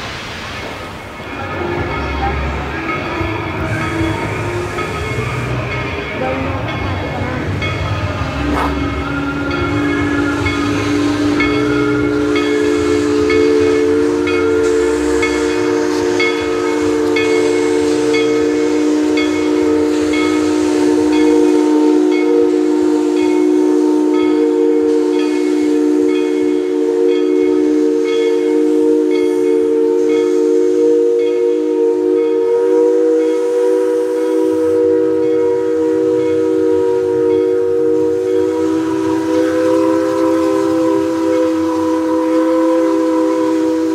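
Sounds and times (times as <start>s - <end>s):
steam locomotive chime whistle: 0.7s - 43.9s.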